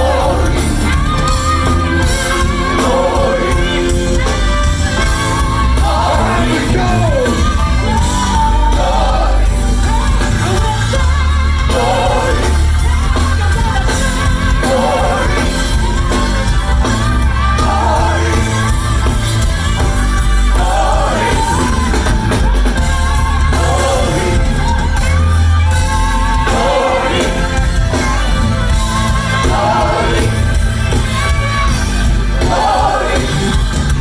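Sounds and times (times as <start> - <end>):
band with pulsing bass: 0.0 - 34.0
gospel choir singing: 0.0 - 34.0.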